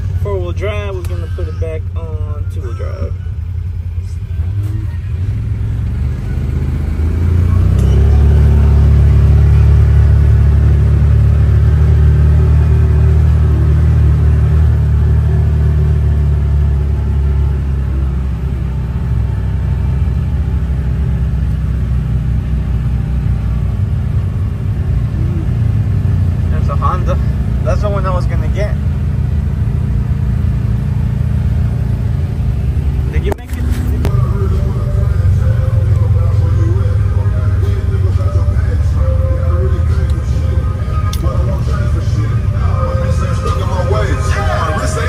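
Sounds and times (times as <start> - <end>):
vehicle engine low rumble: 0.0 - 45.0.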